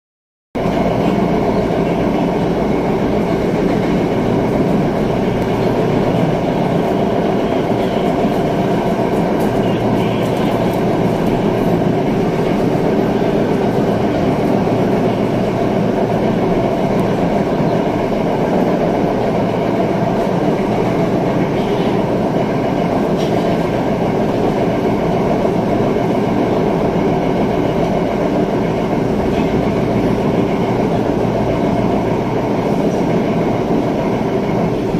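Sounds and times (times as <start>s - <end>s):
steady hum: 0.6s - 34.9s
train wheels on rail: 0.6s - 34.9s.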